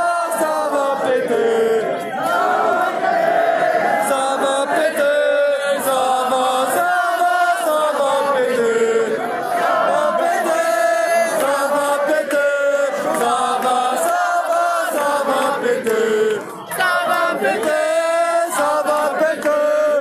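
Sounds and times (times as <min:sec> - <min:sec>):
crowd chanting in unison: 0:00.0 - 0:20.0.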